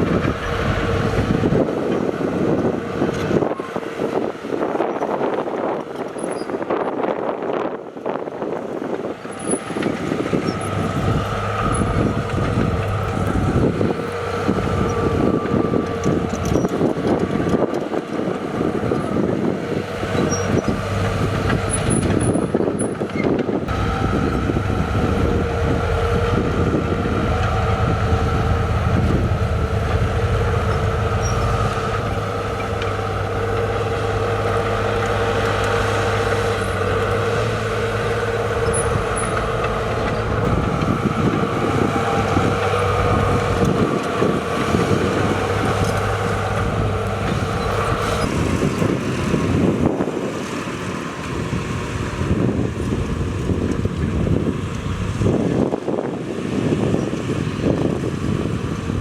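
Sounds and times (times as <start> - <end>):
heavy machinery diesel engines: 0.0 - 59.0.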